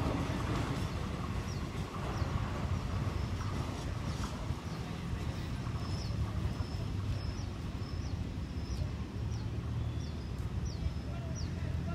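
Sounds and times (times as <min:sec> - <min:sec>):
train coaches rumbling past: 0:00.0 - 0:11.9.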